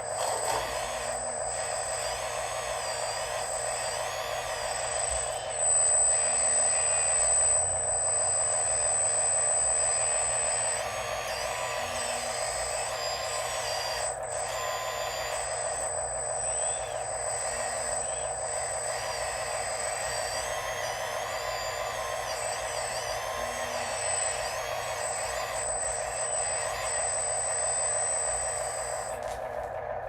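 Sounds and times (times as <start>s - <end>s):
electric motors grinding drone: 0.0s - 30.0s
motors whining: 0.0s - 30.0s.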